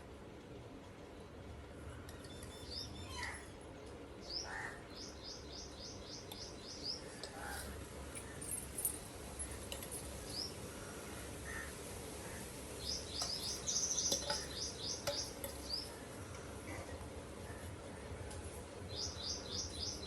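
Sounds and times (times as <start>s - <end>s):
small birds chirping: 1.8s - 20.0s.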